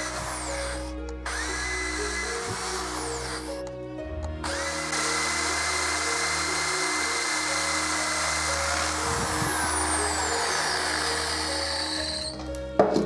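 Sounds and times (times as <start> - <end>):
electric drill whining: 0.0 - 13.0.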